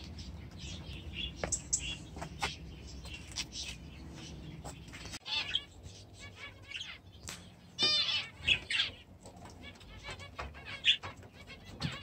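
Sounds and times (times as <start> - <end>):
cage birds chirping and chattering: 0.0 - 12.0
bird trill: 0.2 - 12.0.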